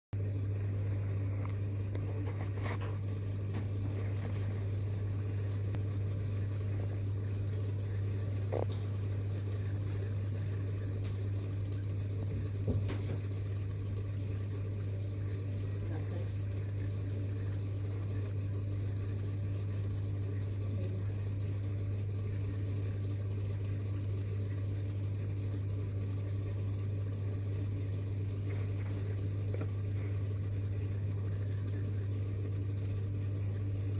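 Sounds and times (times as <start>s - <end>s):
aquarium filter pump humming: 0.2s - 33.9s.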